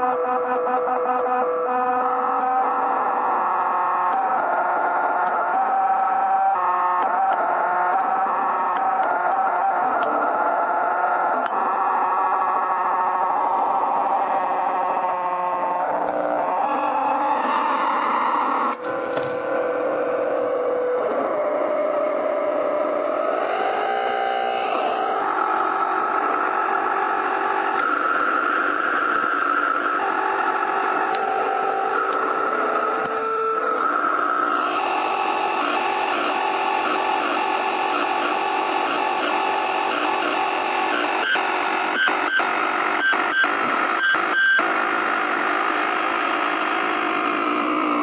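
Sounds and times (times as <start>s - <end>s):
crackling bursts: 0.0s - 48.0s
distorted amplifier noise: 0.0s - 48.0s
whining tones: 0.0s - 48.0s.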